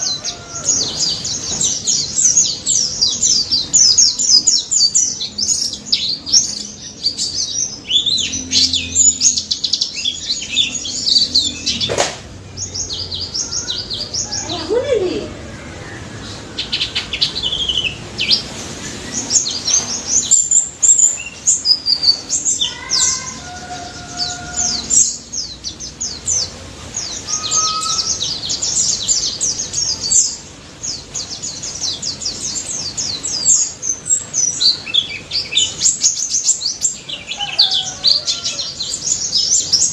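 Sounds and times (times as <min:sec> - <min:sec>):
white-eye bird singing: 0:00.0 - 0:39.9.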